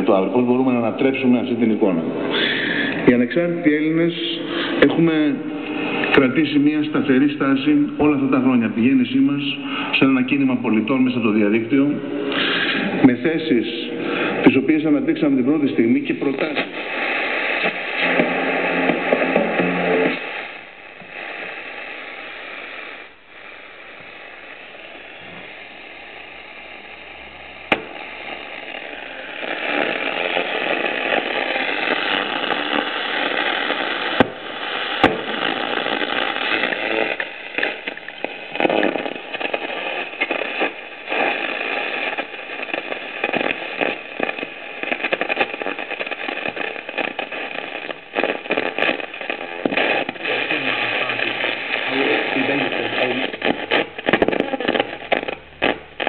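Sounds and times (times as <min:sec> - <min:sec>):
radio static hiss and crackle: 0:00.0 - 0:56.0.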